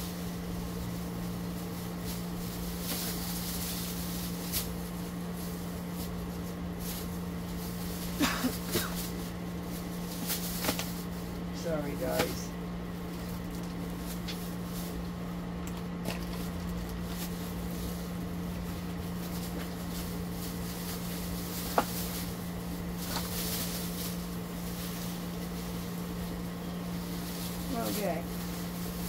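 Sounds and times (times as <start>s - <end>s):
plastic bag rustling: 0.0s - 29.0s
steady low hum: 0.0s - 29.0s.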